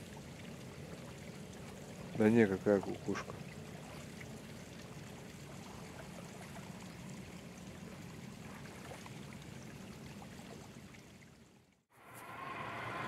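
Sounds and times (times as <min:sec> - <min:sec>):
small stream running: 0:00.0 - 0:12.1.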